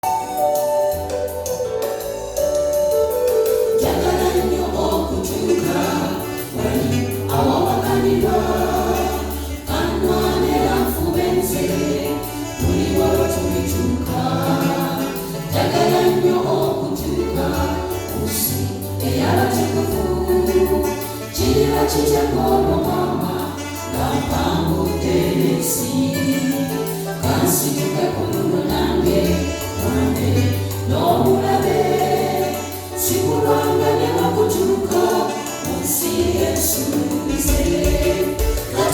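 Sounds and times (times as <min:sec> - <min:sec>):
choir singing gospel: 0:00.0 - 0:38.9
keyboard and bass: 0:00.0 - 0:38.9
light percussion: 0:00.0 - 0:38.9.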